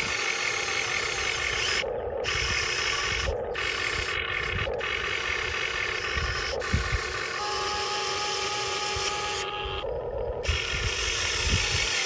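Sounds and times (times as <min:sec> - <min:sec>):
toy excavator motors whining: 0:00.0 - 0:12.0.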